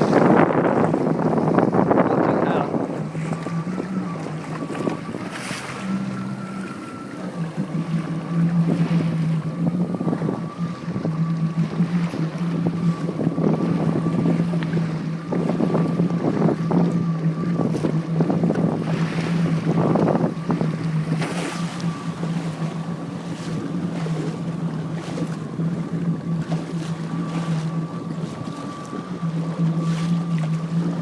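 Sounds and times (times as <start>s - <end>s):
jet ski engine running: 0.0s - 31.0s
water splashing: 0.0s - 31.0s
wind buffeting microphone: 0.0s - 31.0s.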